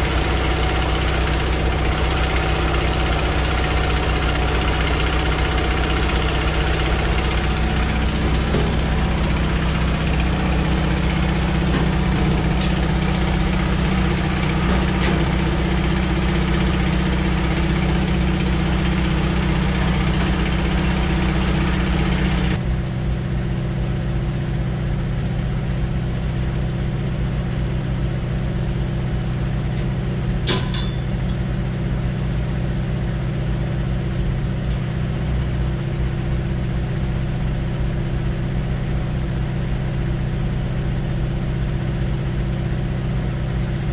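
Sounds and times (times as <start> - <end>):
van engine idling: 0.0 - 43.9.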